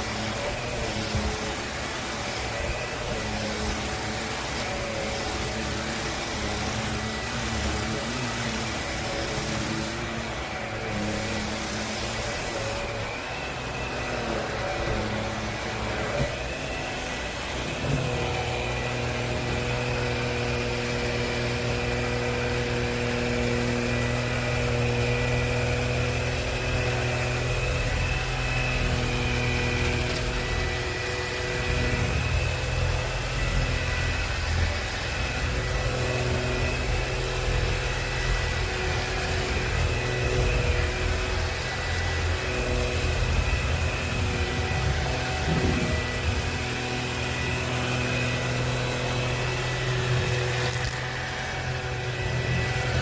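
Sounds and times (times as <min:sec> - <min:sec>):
stick vacuum running: 0:00.0 - 0:53.0.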